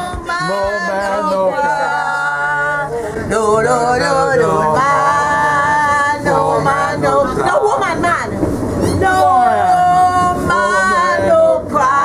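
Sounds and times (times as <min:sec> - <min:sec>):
men singing unaccompanied: 0:00.0 - 0:07.6, 0:09.0 - 0:12.0.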